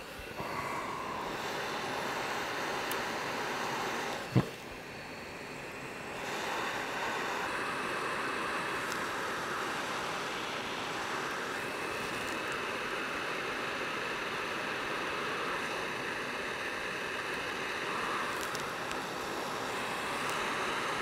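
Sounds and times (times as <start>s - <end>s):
faint blower whine: 0.0s - 21.0s
hot air hissing: 0.0s - 21.0s.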